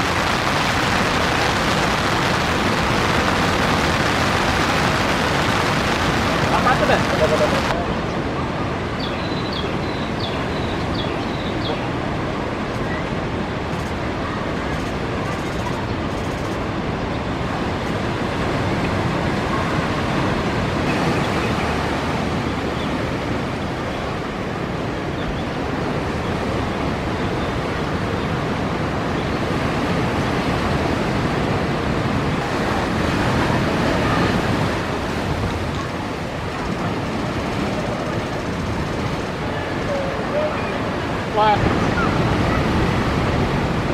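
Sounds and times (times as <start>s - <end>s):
ocean waves breaking on reef: 0.0s - 43.9s.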